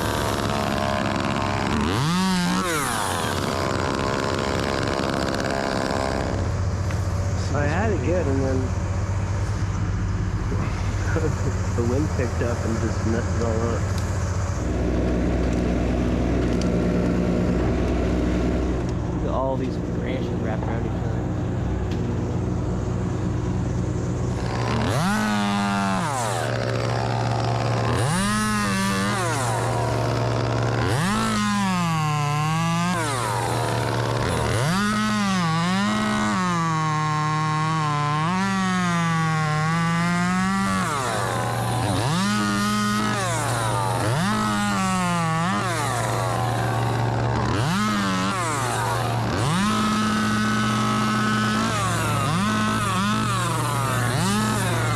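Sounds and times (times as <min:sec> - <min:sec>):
chainsaw cutting branches: 0:00.0 - 0:54.9
truck engine droning: 0:00.0 - 0:54.9.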